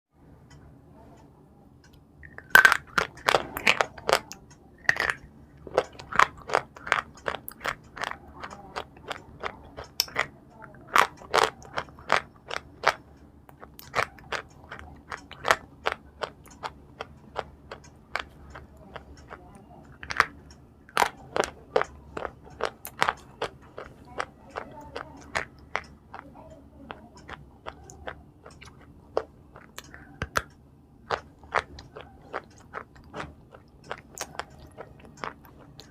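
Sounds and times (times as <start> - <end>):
chewing crunchy food: 1.9 - 35.9.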